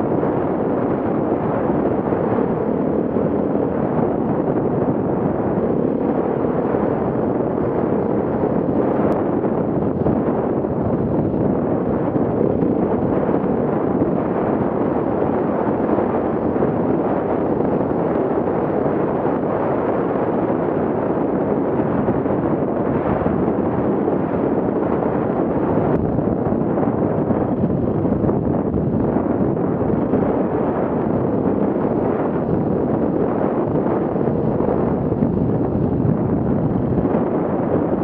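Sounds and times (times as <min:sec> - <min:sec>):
motorcycle engine at speed: 0:00.0 - 0:38.0
wind buffeting microphone: 0:00.0 - 0:38.0.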